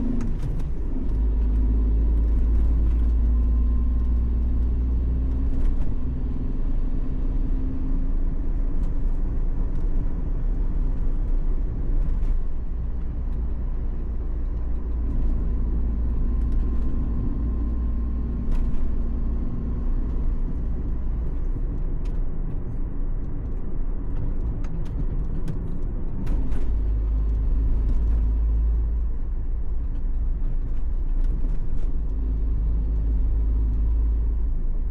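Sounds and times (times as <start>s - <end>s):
motor vehicle engine rumble: 0.0s - 34.9s.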